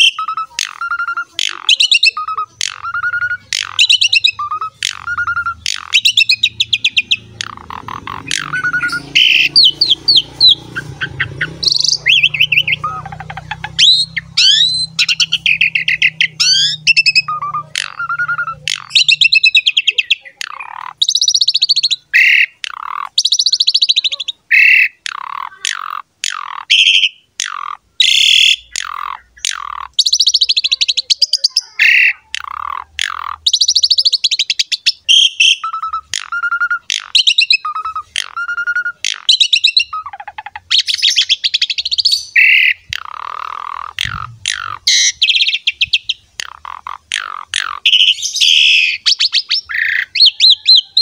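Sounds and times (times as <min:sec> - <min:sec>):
starling singing: 0:00.0 - 0:51.0.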